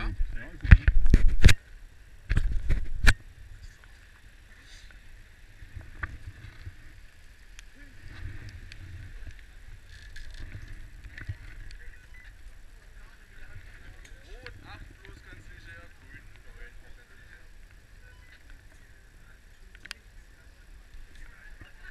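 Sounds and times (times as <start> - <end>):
low rumble on microphone: 0.0 - 21.9.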